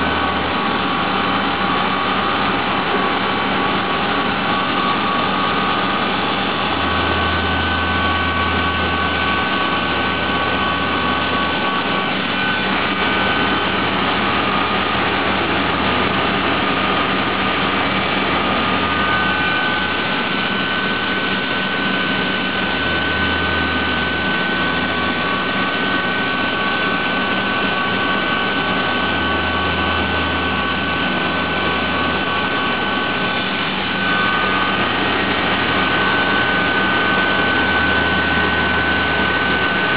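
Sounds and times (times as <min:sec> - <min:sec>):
milling spindle whine: 0:00.0 - 0:39.9
low hum: 0:04.1 - 0:39.9.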